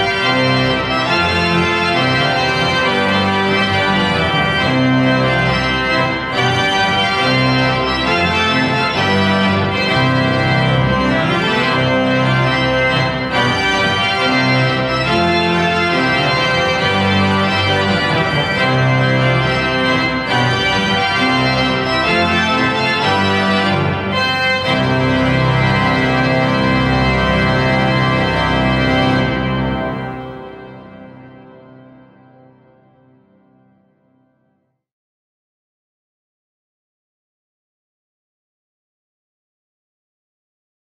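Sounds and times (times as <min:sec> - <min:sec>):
pipe organ playing loudly: 0:00.0 - 0:33.3.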